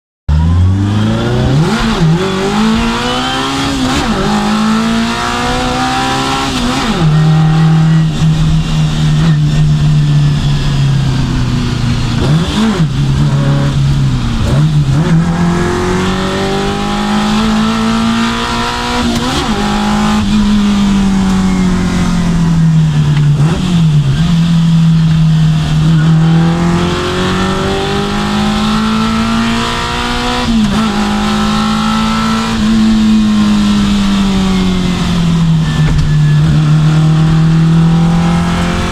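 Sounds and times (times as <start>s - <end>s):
car engine revving high: 0.3s - 38.9s.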